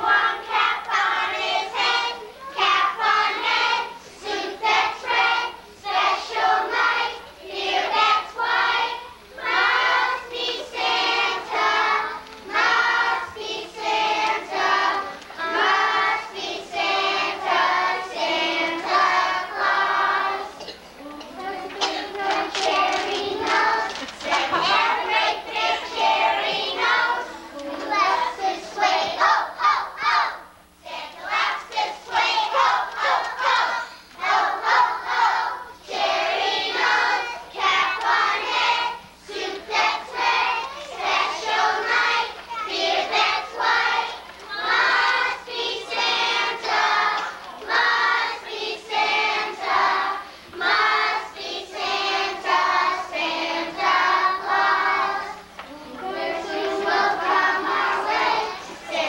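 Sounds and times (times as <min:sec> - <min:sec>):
children singing together: 0:00.0 - 0:59.0.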